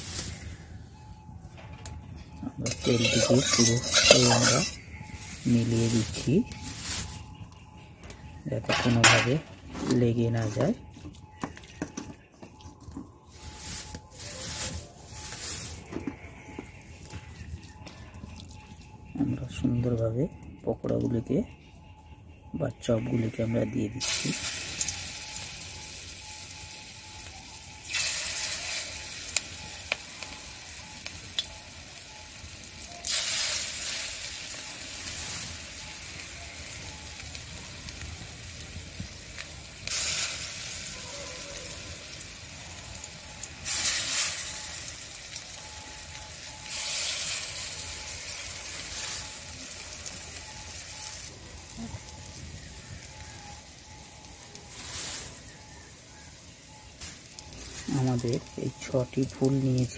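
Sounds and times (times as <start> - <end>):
oil sizzling steadily: 0.0 - 0.9, 2.6 - 12.0, 12.6 - 20.2, 23.0 - 59.9.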